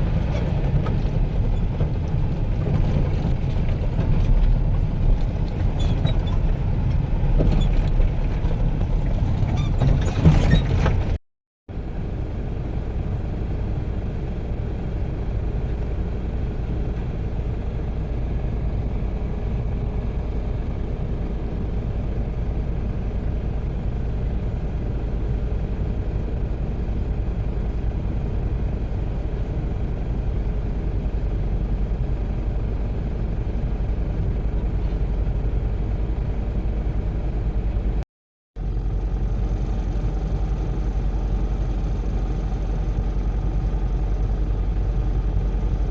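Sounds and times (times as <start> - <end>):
heavy machinery engine rumble: 0.0 - 11.2, 11.8 - 38.0, 38.6 - 45.9.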